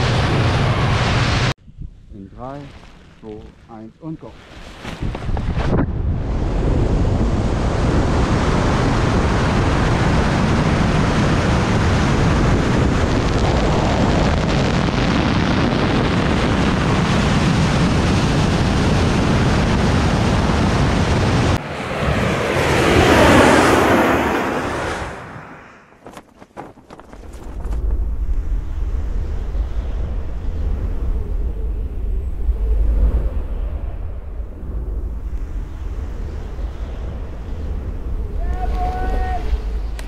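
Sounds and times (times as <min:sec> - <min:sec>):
wind rushing on microphone: 0:00.0 - 0:40.0.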